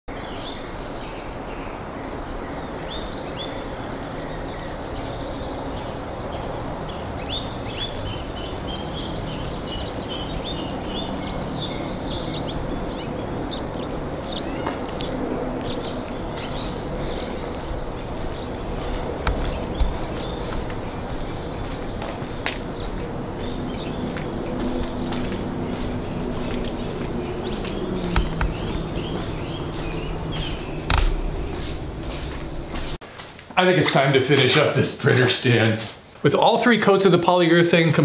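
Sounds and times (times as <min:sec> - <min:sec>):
birds chirping: 0:00.1 - 0:33.0
steady rushing noise: 0:01.4 - 0:34.7.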